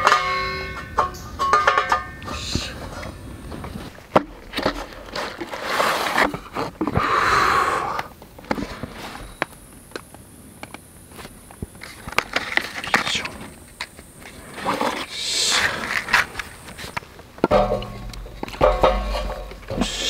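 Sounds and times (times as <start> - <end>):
rustling scraping noise: 0.0 - 7.2, 7.8 - 9.5, 11.1 - 20.0.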